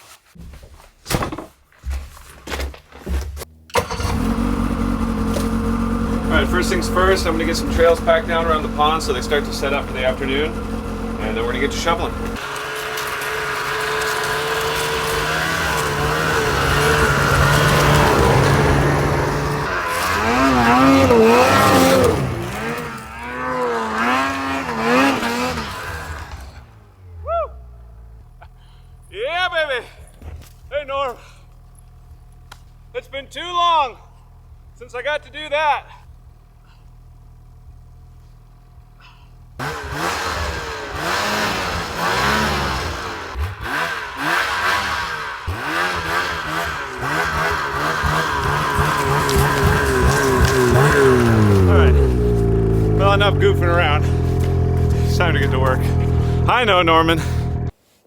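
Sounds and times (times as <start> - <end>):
snowmobile engine revving: 3.7 - 57.8.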